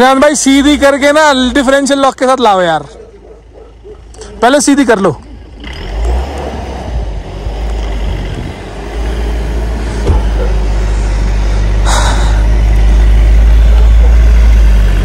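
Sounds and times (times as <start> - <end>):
diesel engine in snow: 0.0 - 15.0.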